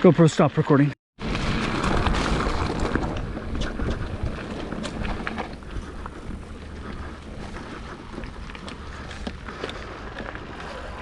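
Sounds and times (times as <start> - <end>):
mountain bike rolling on dirt: 1.2 - 11.0
wind buffeting microphone: 1.2 - 11.0
rattles and clicks: 1.4 - 10.8.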